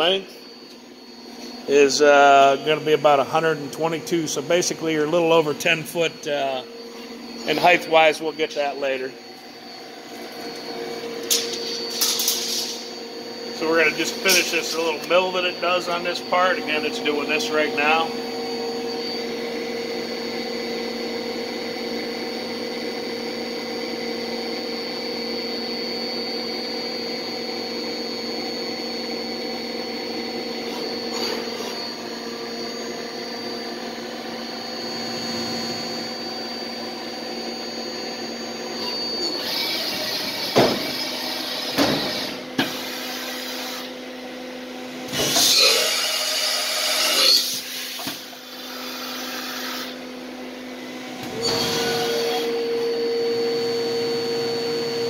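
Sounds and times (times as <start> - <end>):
milling machine whining: 0.0 - 55.0.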